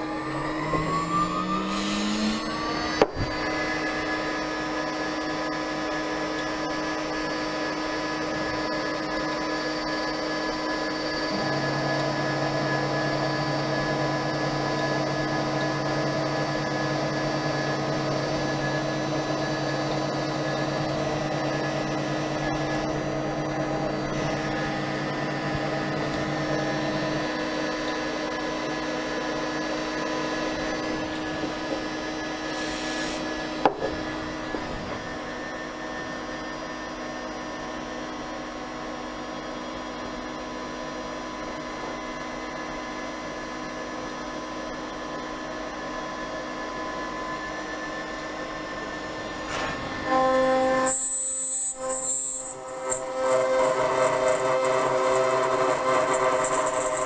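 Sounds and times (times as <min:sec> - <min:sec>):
router spindle whine: 0:00.0 - 0:57.0.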